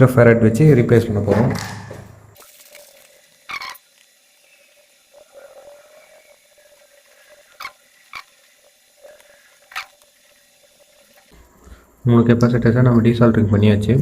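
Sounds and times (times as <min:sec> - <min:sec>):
faint steady hum: 0:02.0 - 0:14.0.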